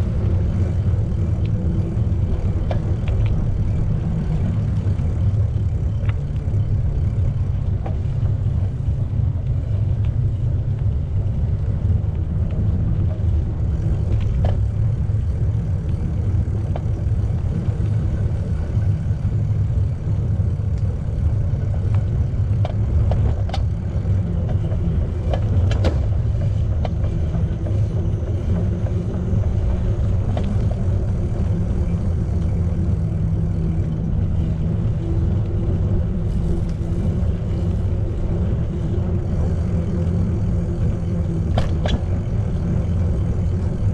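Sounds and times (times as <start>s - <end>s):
bicycle rolling noise: 0.0s - 43.9s
bike clicks and rattles: 0.0s - 43.9s
wind rumble on microphone: 0.0s - 43.9s.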